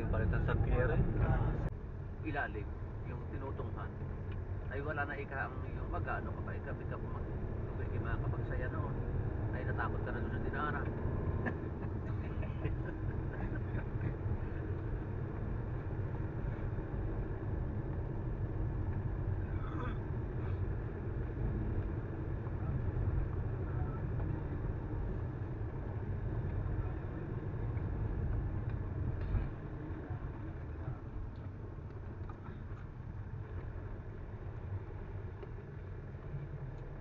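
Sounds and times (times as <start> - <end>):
car cabin road rumble: 0.0 - 37.0.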